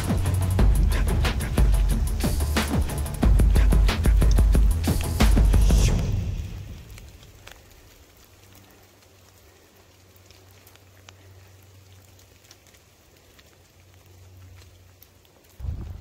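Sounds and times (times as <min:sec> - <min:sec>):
rain dripping through trees: 0:00.0 - 0:16.0.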